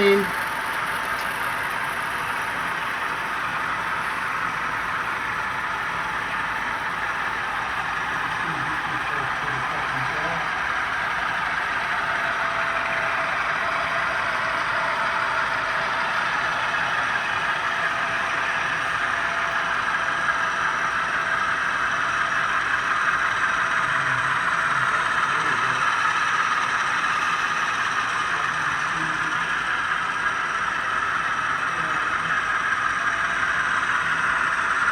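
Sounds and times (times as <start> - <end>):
model train whirring and rolling: 0.0 - 34.9.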